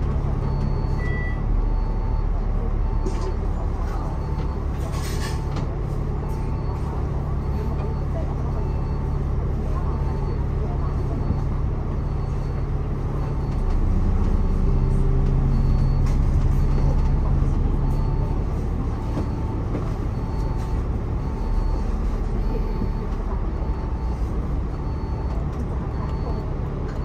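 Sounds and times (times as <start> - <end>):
bus engine running: 0.0 - 27.0
short electronic beeps: 0.4 - 3.4, 6.2 - 27.0.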